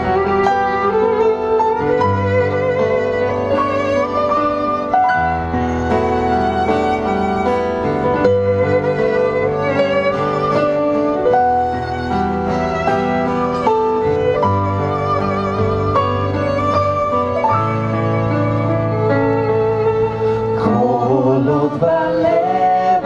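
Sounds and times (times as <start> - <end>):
keyboard chords: 0.0 - 23.0
violin melody with vibrato: 0.0 - 23.0.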